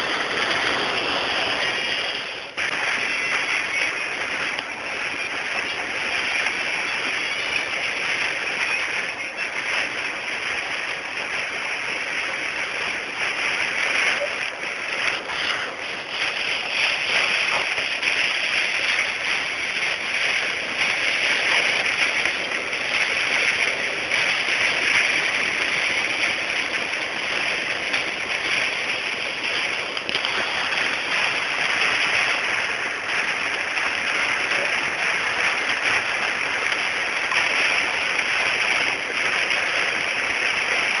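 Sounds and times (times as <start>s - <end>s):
hail and heavy rain falling: 0.0s - 41.0s.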